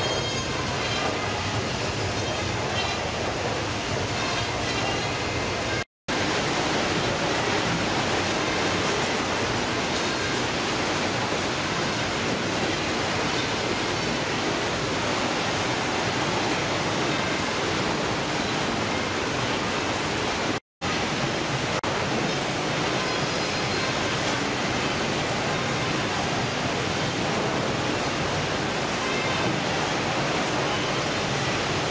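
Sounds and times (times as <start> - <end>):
rushing machinery and running water: 0.0 - 31.9.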